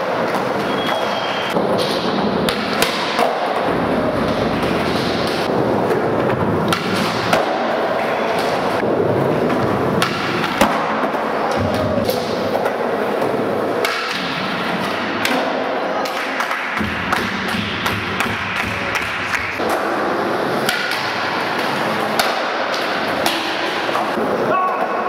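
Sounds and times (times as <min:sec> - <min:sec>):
skateboard wheels rolling on concrete: 0:00.0 - 0:15.2, 0:18.8 - 0:25.0.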